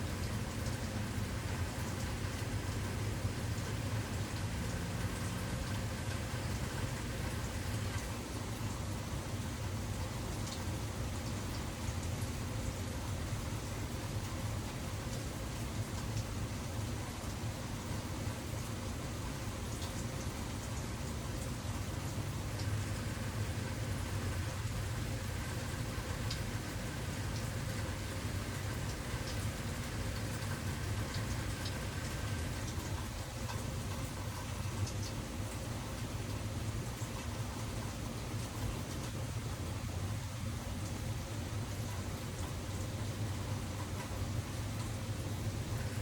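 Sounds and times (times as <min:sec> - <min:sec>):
low steady rumble: 0:00.0 - 0:46.0
steady rain falling: 0:00.0 - 0:46.0.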